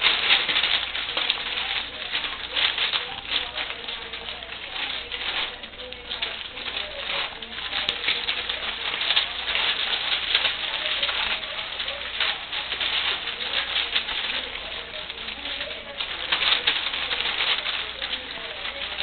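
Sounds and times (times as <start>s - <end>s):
puppies feeding clicks and crackles: 0.0s - 19.0s.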